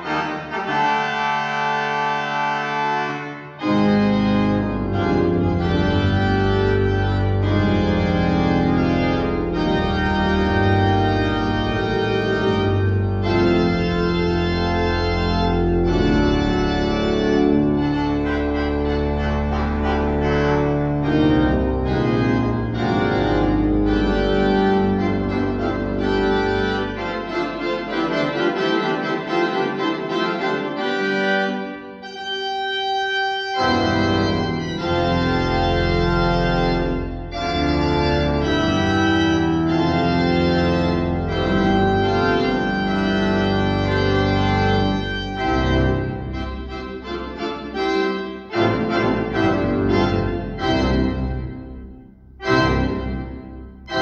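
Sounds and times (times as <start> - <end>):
church organ playing chords: 0.0 - 54.0
deep organ pedal bass: 0.0 - 54.0.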